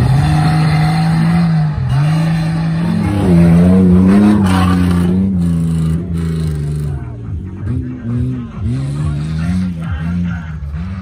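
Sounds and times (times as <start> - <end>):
off-road engine revving hard: 0.0 - 11.0.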